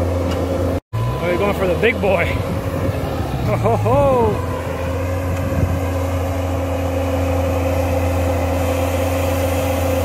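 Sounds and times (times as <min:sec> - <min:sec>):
diesel engine running under load: 0:00.0 - 0:10.0
steady whine: 0:00.0 - 0:10.0.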